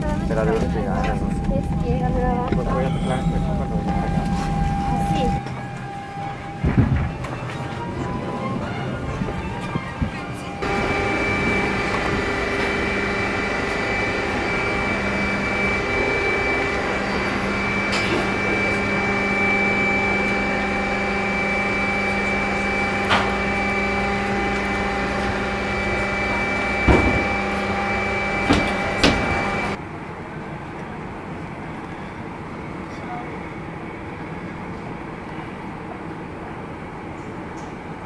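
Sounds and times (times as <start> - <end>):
constant whining tones: 0.0 - 38.0
jet engines hum: 0.0 - 38.0.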